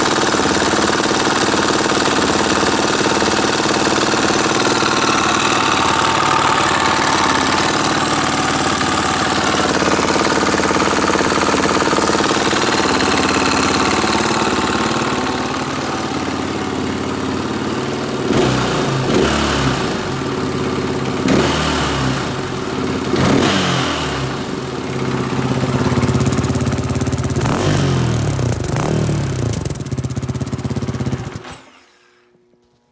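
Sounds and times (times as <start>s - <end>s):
engine knock: 0.0s - 31.5s
motorcycle engine idling and revving: 0.0s - 32.0s.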